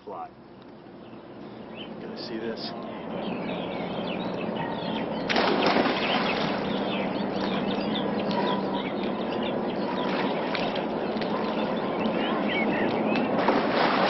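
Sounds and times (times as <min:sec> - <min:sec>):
small birds chirping: 0:00.0 - 0:13.4
swimmer splashing water: 0:02.0 - 0:14.0.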